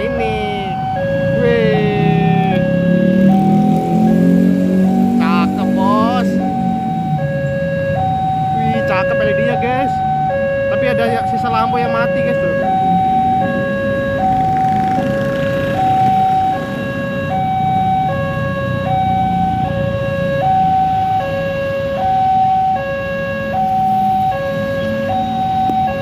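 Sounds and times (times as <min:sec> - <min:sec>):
motorcycle and car traffic: 0:00.0 - 0:26.0
two-tone crossing warning alarm: 0:00.0 - 0:26.0.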